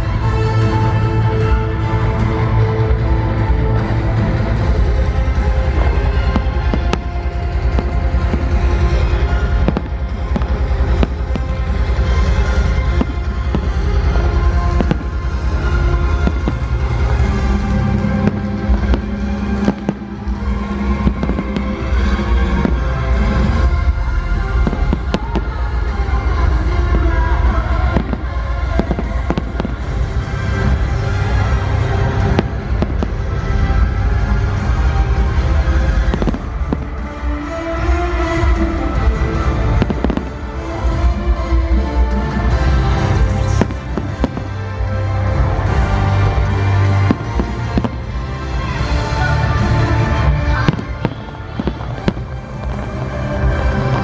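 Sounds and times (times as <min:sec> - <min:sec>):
deep low rumble: 0:00.0 - 0:54.0
loud show music: 0:00.0 - 0:54.0
fireworks bangs and pops: 0:03.9 - 0:54.0.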